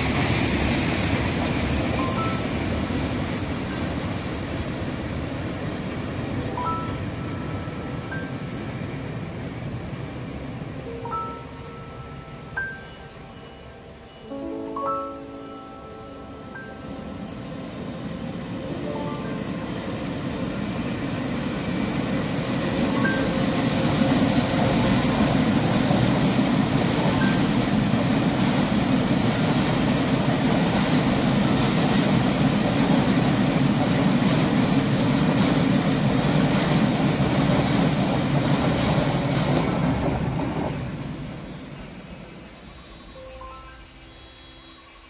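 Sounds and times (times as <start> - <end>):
train passing on rails: 0.0 - 45.0.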